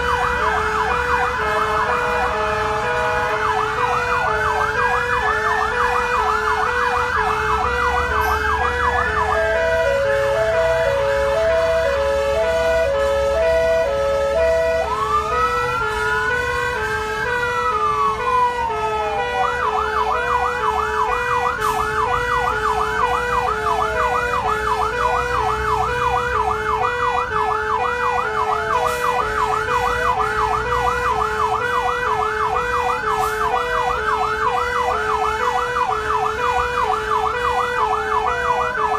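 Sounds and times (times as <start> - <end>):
electronic siren yelp: 0.0 - 38.9
rising and falling siren wails: 0.0 - 38.9
truck engine rumbling: 0.0 - 38.9
two-tone hi-lo siren: 0.0 - 38.9.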